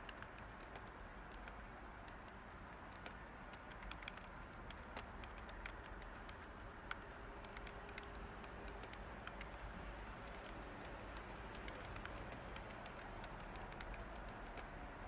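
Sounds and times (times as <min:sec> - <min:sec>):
keyboard key clicks: 0:00.0 - 0:14.7
white-noise hiss: 0:00.0 - 0:15.0.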